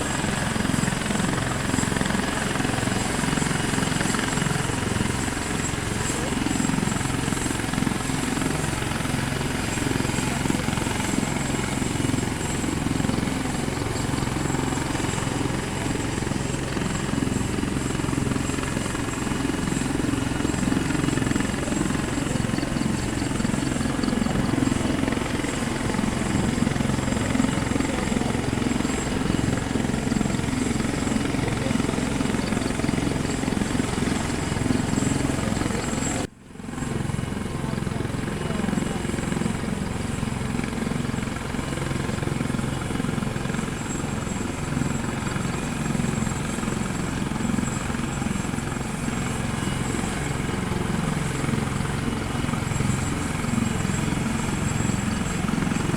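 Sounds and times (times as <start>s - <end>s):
helicopter rotor beat: 0.0s - 55.9s.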